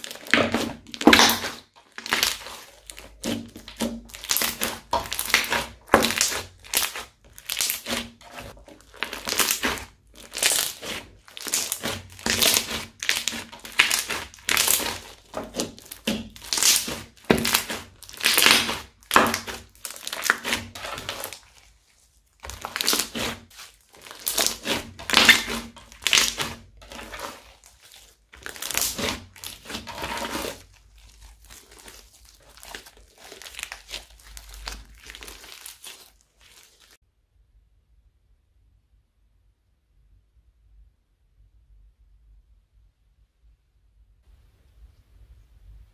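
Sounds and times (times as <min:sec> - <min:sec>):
crunchy slime crackling: 0:00.0 - 0:37.0.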